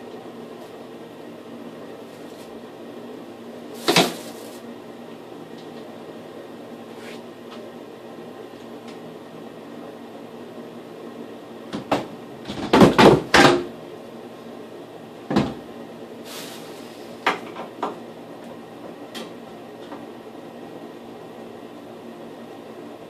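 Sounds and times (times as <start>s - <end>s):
steady hum: 0.0s - 12.5s, 13.2s - 23.0s.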